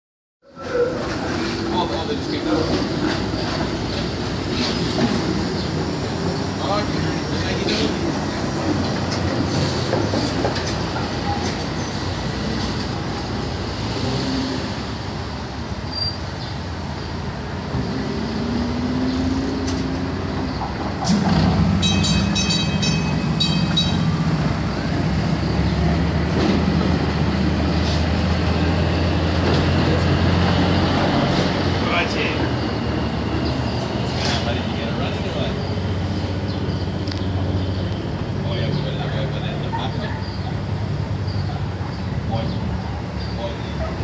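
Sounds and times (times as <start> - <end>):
streetcar wheels rumbling on rails: 0.4 - 44.0.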